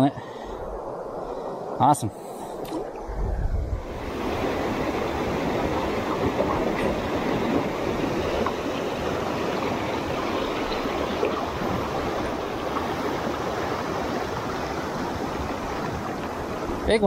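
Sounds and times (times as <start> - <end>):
water rushing over rocks: 2.6 - 17.0.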